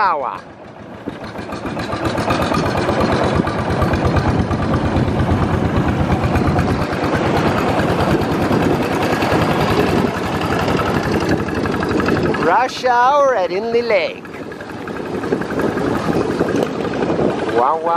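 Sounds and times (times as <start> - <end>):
boat engine running: 0.0 - 17.9.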